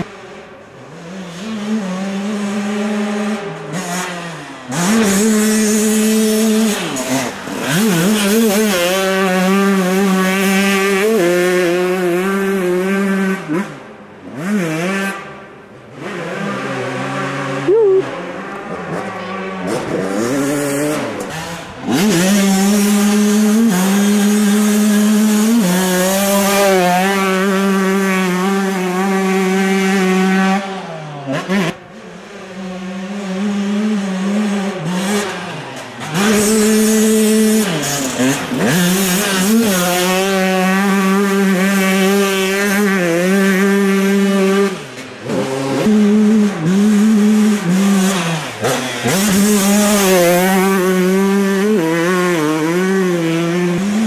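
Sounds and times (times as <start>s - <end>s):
motocross engines revving: 0.0s - 54.0s.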